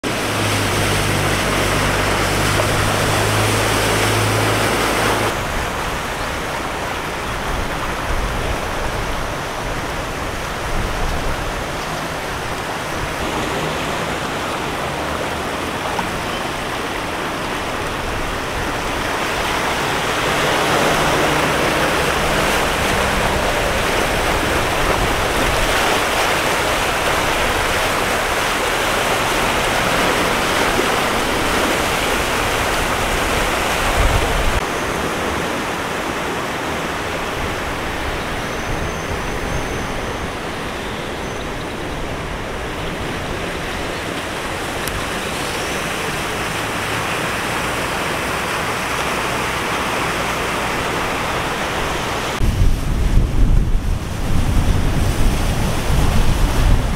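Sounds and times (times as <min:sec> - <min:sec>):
engine hum: 0:00.0 - 0:56.9
tyres splashing through water: 0:00.0 - 0:56.9.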